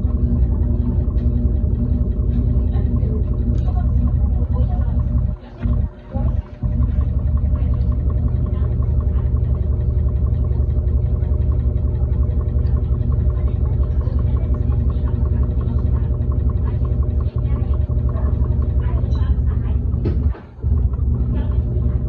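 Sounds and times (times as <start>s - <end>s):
washing machine rumbling and rattling: 0.0s - 22.0s.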